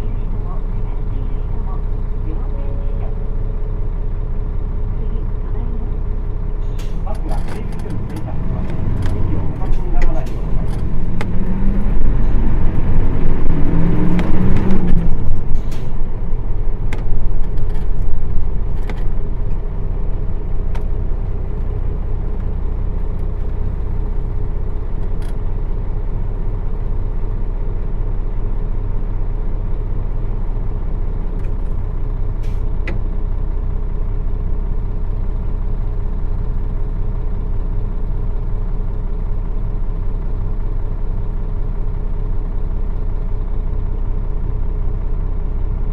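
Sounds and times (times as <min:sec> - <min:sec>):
bus diesel engine idling: 0:00.0 - 0:45.9.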